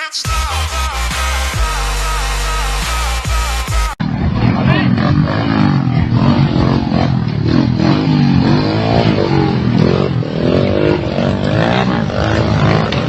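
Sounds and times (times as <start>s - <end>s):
engine revving: 0.4s - 13.0s.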